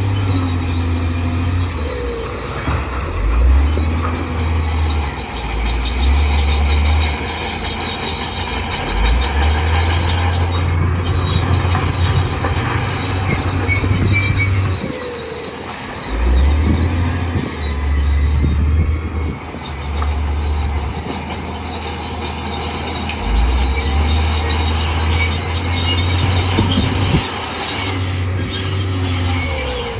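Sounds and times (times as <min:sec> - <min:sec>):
bulldozer diesel rumble: 0:00.0 - 0:29.9
steel tracks squealing: 0:00.0 - 0:29.9.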